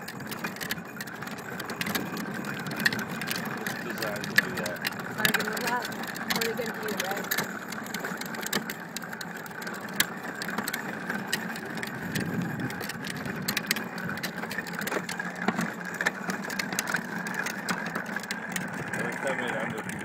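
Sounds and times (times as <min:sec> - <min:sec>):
plastic wheels rolling on asphalt: 0:00.0 - 0:20.0
toy car rattling and clicking: 0:00.0 - 0:20.0.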